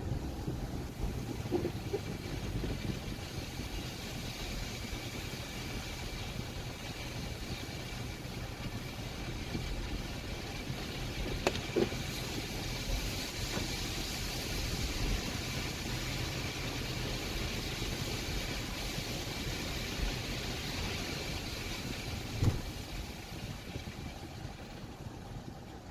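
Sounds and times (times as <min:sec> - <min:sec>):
street traffic: 0:00.0 - 0:25.9.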